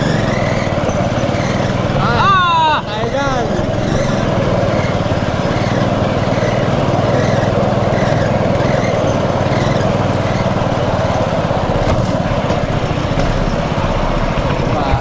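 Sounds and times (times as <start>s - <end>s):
rail trolley engine running: 0.0s - 15.0s.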